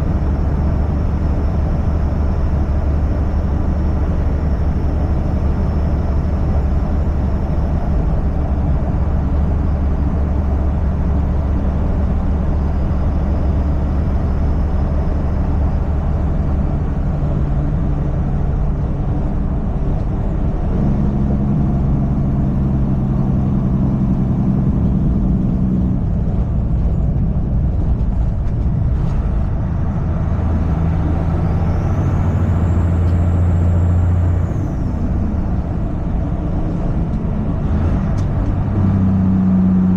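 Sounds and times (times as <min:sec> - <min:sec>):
road noise rushing: 0:00.0 - 0:39.9
truck engine droning: 0:00.0 - 0:39.9.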